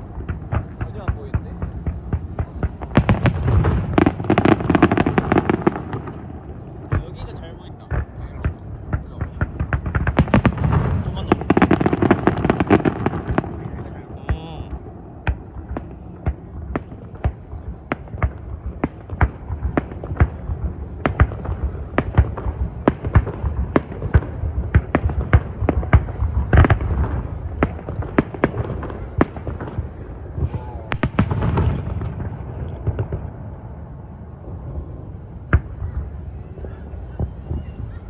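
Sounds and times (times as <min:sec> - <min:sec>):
fireworks bangs: 0:00.0 - 0:38.0.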